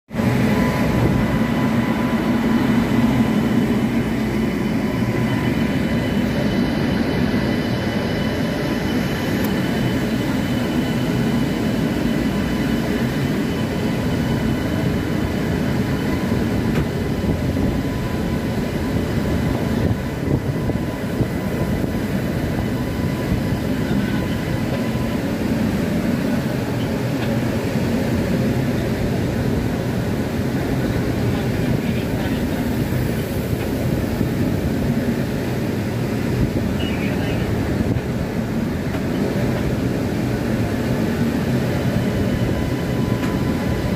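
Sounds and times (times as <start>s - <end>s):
freight train rumbling: 0.1s - 43.9s.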